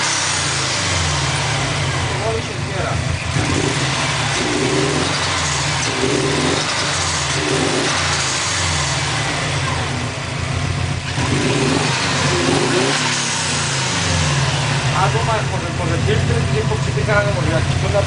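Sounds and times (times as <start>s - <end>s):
car engine running rough: 0.0s - 18.0s.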